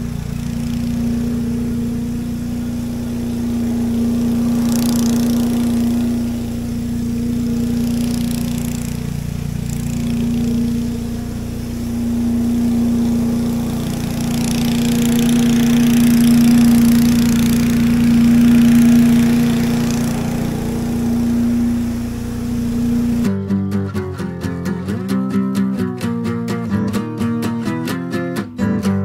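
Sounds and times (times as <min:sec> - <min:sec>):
small gasoline engine running: 0:00.0 - 0:23.3.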